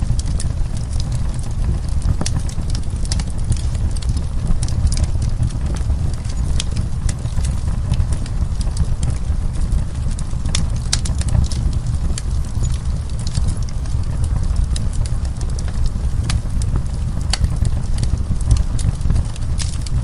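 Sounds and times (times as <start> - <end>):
burning wood crackling and popping: 0.0 - 20.0.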